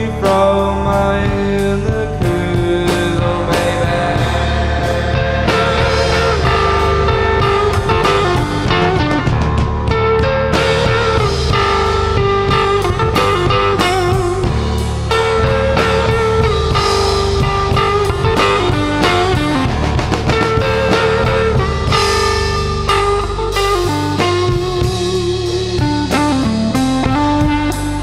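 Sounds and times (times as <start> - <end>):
blues-rock band playing: 0.0 - 28.0
lead guitar: 0.0 - 28.0.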